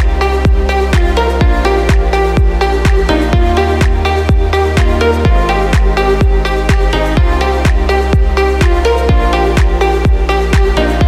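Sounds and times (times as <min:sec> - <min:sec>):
held synth chords: 0:00.0 - 0:11.0
steady kick drum: 0:00.0 - 0:11.0
upbeat electronic music: 0:00.0 - 0:11.0.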